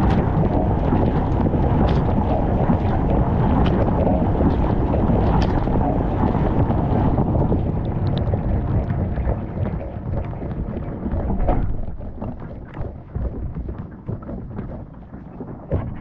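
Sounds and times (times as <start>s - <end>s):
water dripping and trickling: 0.0s - 16.0s.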